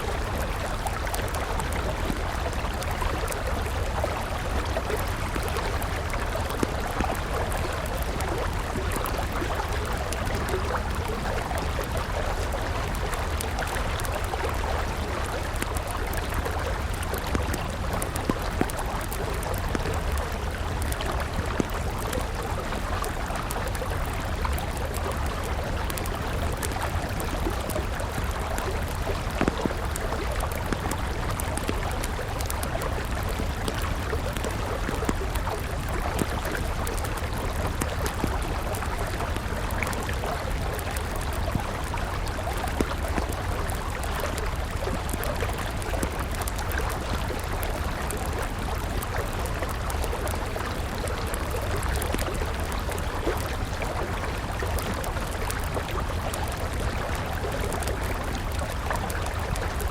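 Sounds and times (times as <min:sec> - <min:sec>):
campfire crackling: 0:00.0 - 0:59.9
river flowing: 0:00.0 - 0:59.9.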